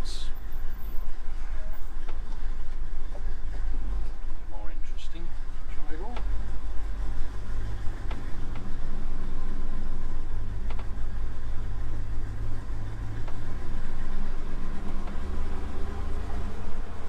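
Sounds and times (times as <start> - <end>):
car engine running at low speed: 0.0 - 17.0.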